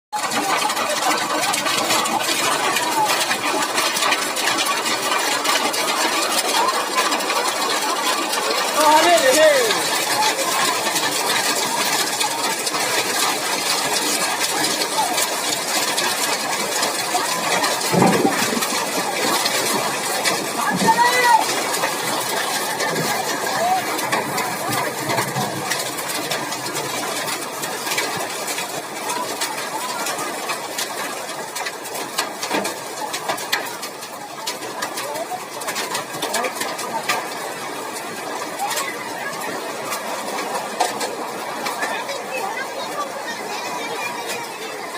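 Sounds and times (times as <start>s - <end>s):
hail clattering: 0.1s - 44.9s
steady rush of rain: 0.1s - 44.9s.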